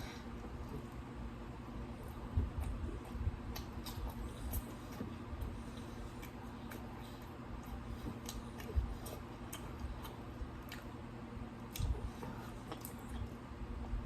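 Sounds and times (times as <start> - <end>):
chewing with mouth smacks: 0.3 - 14.0.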